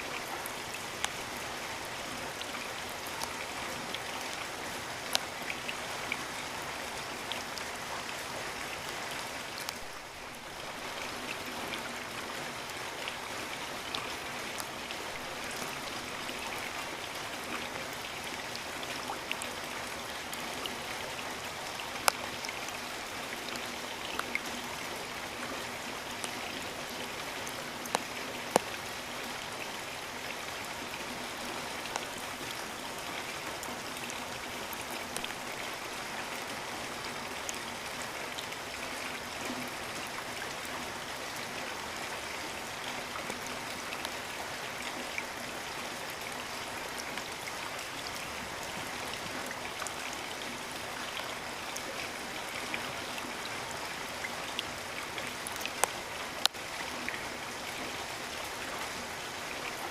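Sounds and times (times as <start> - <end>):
raindrops ticking close by: 0.0 - 59.9
steady rain falling: 0.0 - 59.9.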